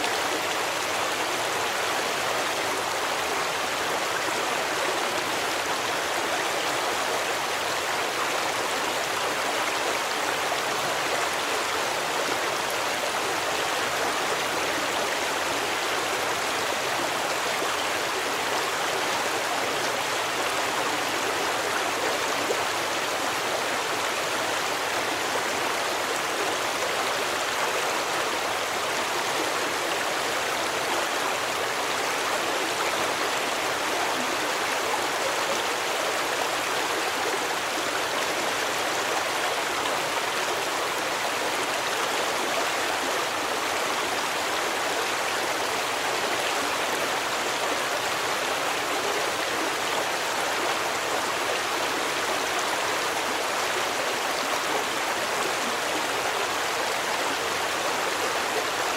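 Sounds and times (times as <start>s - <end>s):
stream of running water: 0.0s - 58.9s.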